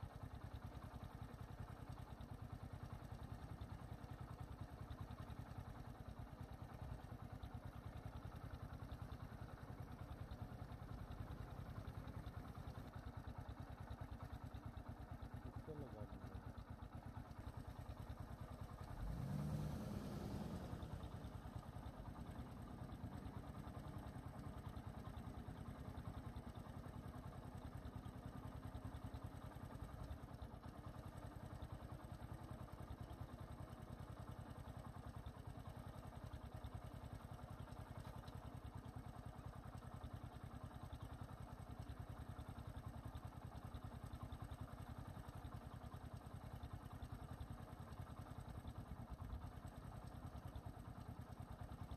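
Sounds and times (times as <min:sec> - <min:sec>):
engine idling faintly: 0:00.0 - 0:51.9.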